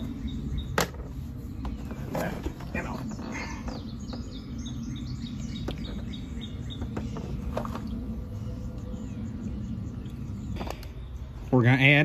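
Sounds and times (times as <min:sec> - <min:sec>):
low background rumble: 0:00.0 - 0:12.0
songbird chirping: 0:00.0 - 0:12.0.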